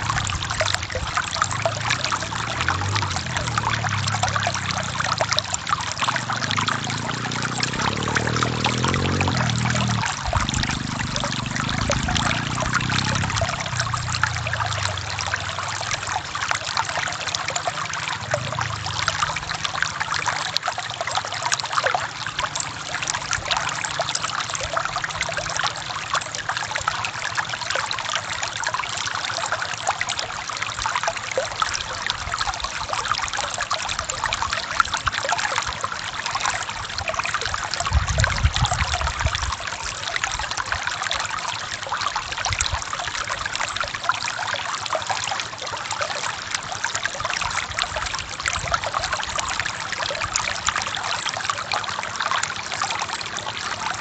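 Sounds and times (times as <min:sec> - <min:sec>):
low rumble in water: 0:00.0 - 0:54.0
river flowing over rocks: 0:00.0 - 0:54.0.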